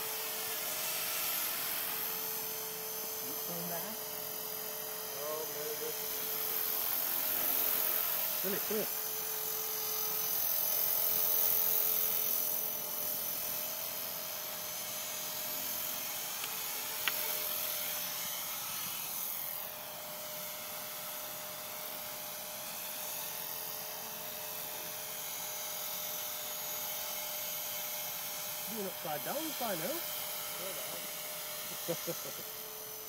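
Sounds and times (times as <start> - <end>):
model helicopter whining: 0.0 - 33.0.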